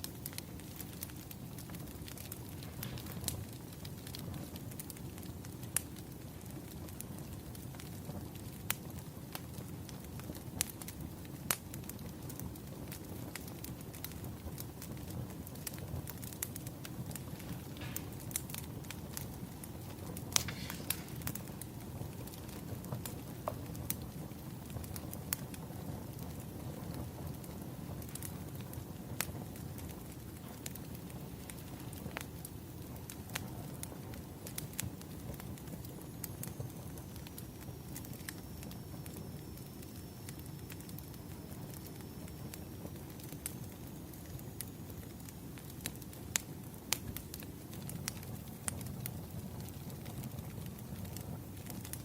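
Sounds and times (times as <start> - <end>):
logs crackling and popping: 0.0 - 52.0
low fire rumble: 0.0 - 52.0.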